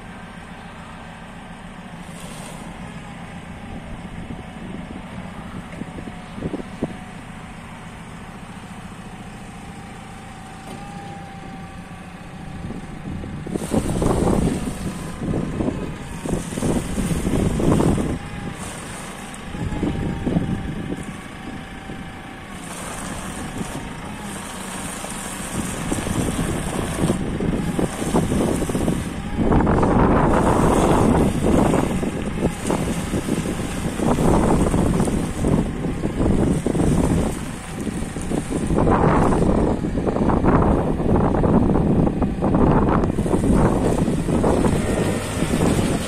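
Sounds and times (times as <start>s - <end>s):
diesel engine idling: 0.0s - 46.0s
wind buffeting microphone: 2.2s - 46.0s.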